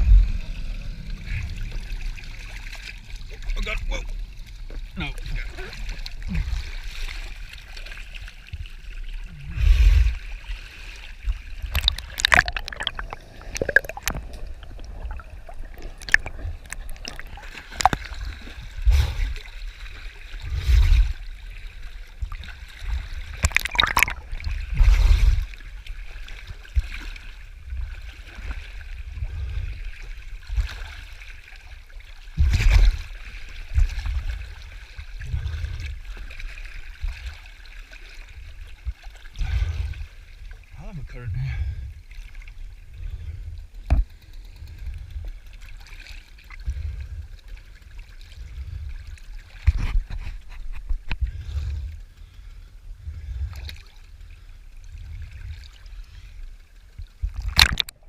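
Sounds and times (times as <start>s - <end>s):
water sloshing along a hull: 0.0s - 58.0s.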